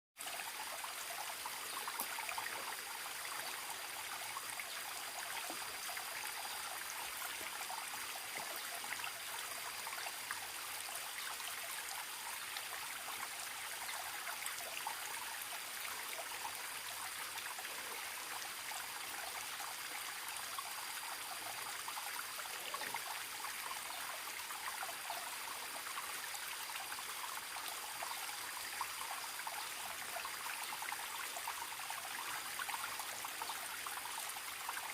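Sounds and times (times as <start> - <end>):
stream trickling: 0.2 - 34.9.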